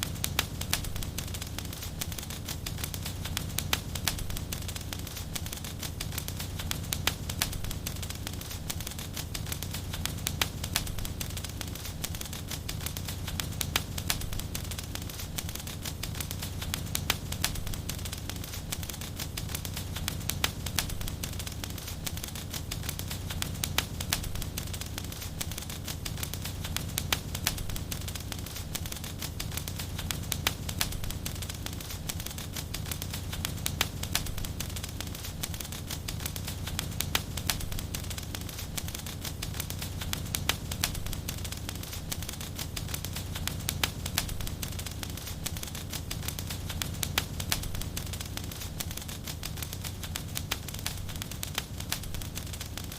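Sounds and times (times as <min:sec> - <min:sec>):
fire popping and snapping: 0:00.0 - 0:52.9
low rumble of burning: 0:00.0 - 0:52.9
wood fire crackling: 0:00.0 - 0:52.9.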